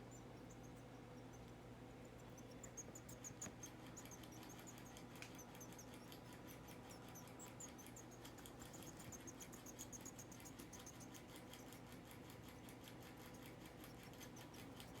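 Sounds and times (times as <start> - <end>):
faint ticks: 0.0 - 15.0
rat squeaking: 0.0 - 15.0.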